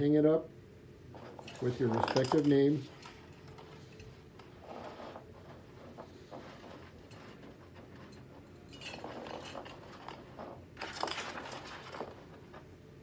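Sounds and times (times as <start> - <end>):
plastic face shield rustling: 1.1 - 12.8.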